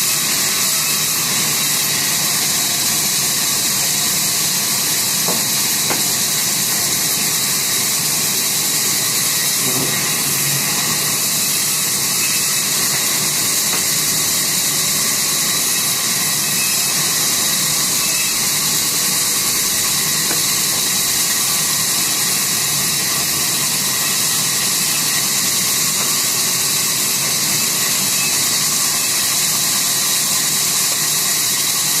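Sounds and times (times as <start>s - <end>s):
sawmill saw running: 0.0s - 32.0s.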